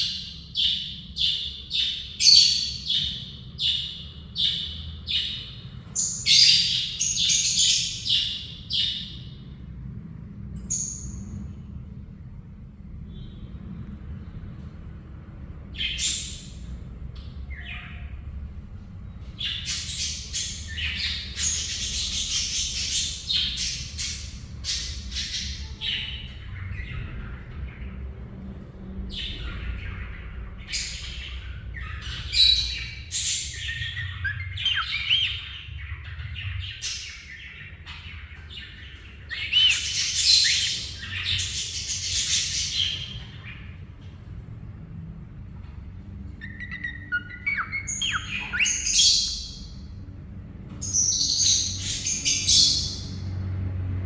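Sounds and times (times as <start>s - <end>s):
parrots chirping and squawking: 0.0s - 9.5s, 15.7s - 44.6s, 45.5s - 53.3s.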